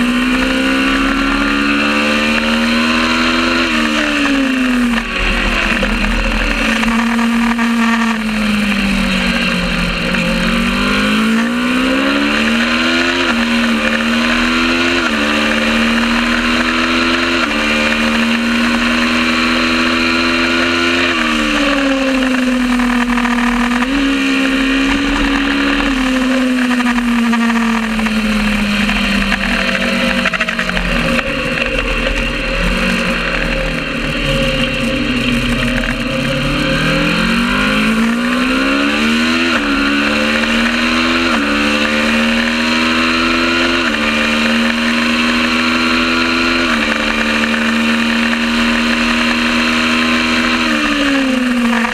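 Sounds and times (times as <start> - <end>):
racing motorcycle engine: 0.0 - 51.9.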